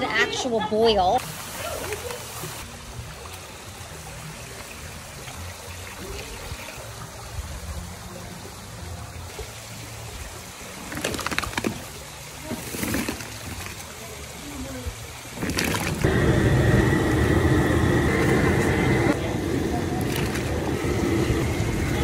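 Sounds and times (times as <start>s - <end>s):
water trickling and sloshing: 0.0s - 16.1s, 19.1s - 22.0s
water splashing: 1.2s - 16.1s, 18.3s - 22.0s.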